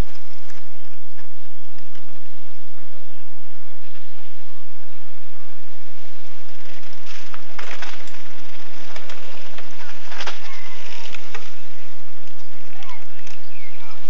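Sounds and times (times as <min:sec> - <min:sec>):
bikes clicking and clinking: 0:00.0 - 0:03.0, 0:05.2 - 0:14.0
steady background hiss: 0:00.0 - 0:14.0.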